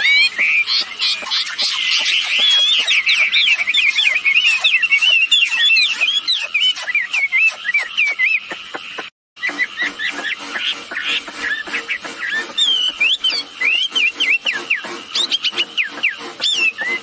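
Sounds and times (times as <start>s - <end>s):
birds whistling song: 0.0s - 17.0s.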